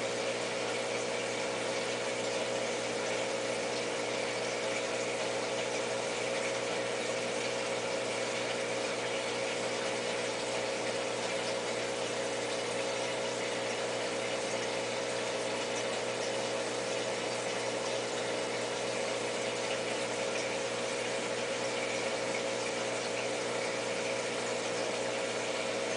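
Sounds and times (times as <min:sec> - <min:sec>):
aquarium pump humming: 0:00.0 - 0:25.9.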